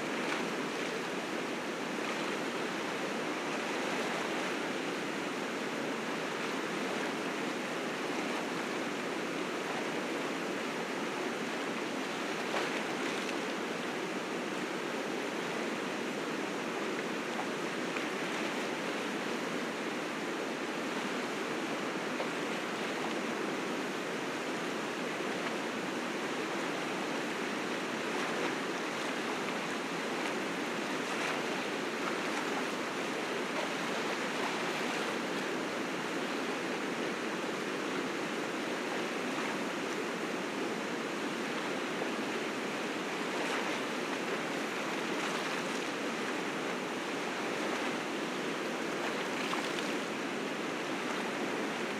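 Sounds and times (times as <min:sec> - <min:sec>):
river rapids roaring: 0:00.0 - 0:51.9.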